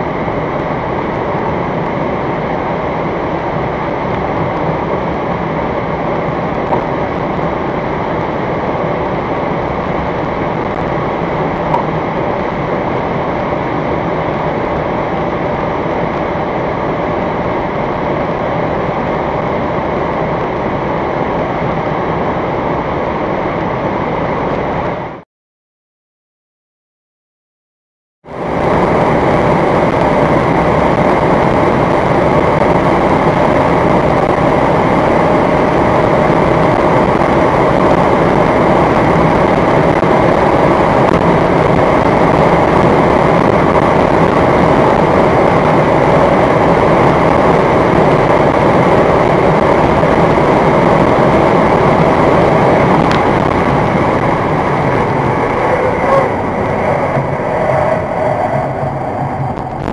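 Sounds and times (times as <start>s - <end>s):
car engine drone: 0.0s - 25.2s, 28.2s - 59.9s
wind noise: 0.0s - 25.2s, 28.3s - 59.9s.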